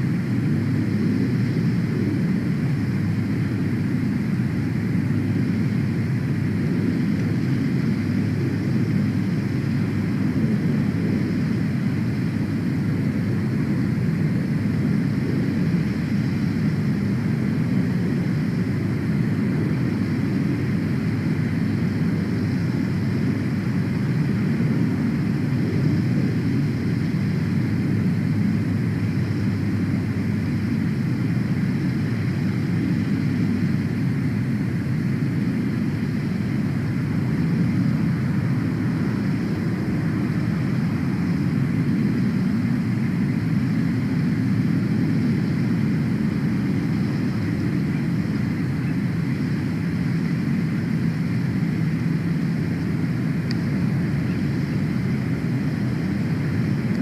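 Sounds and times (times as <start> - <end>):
low rumbling noise: 0.0 - 57.0.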